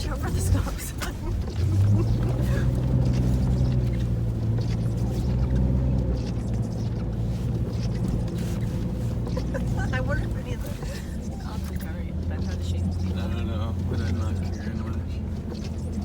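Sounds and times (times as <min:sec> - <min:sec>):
vehicle engine droning under load: 0:00.0 - 0:16.0.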